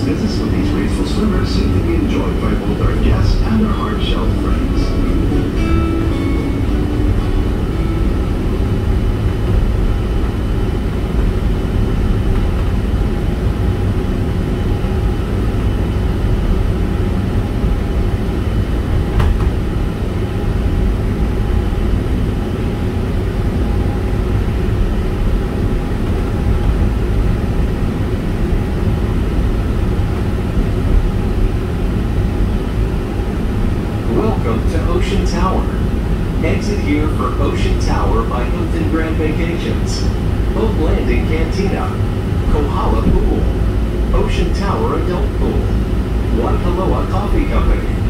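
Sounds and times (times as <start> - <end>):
tram rumbling: 0.0 - 48.0.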